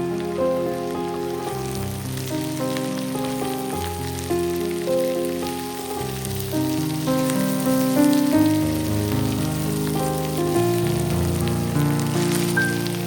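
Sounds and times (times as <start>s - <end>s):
background music of held notes: 0.0s - 13.0s
food frying in oil: 0.0s - 13.0s.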